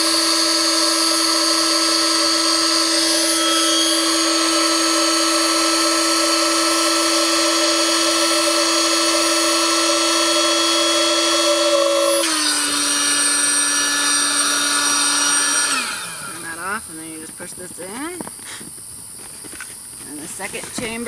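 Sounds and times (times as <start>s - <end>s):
electric air pump running: 0.0s - 21.0s.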